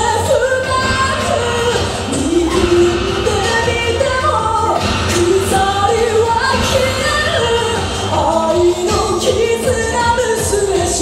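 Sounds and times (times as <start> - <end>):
band playing: 0.0 - 11.0
drum and cymbal hits: 0.0 - 11.0
person singing: 0.0 - 11.0.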